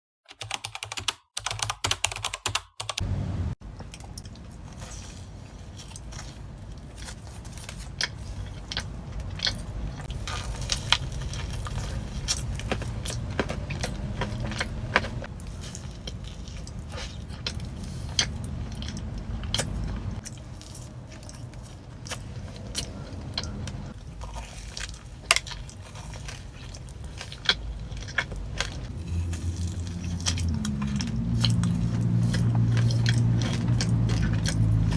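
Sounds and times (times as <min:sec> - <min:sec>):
chewing: 0:03.8 - 0:34.9.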